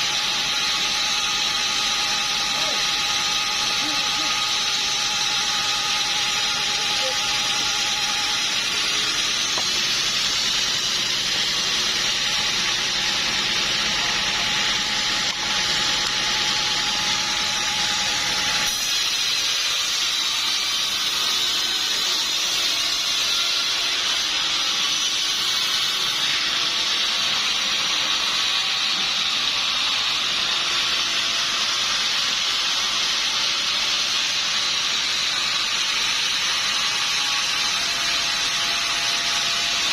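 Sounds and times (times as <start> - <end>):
saw blade whining through log: 0.0 - 39.9.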